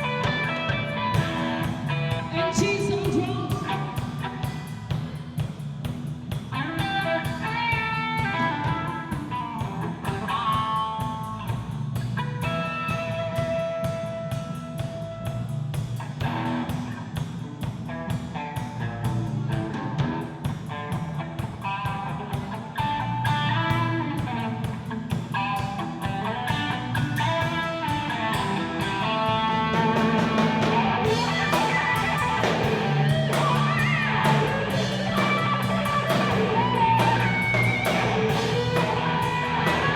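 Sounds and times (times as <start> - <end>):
bass guitar: 0.0 - 39.9
drum kit: 0.0 - 39.9
electric guitar melody: 0.0 - 39.9.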